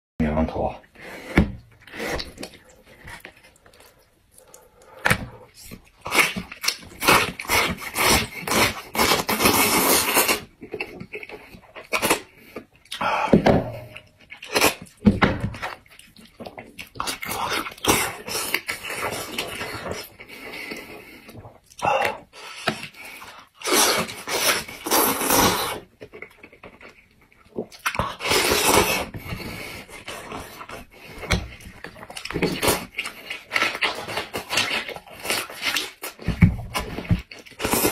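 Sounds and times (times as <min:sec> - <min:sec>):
chewing: 0:01.8 - 0:13.0, 0:15.6 - 0:37.9.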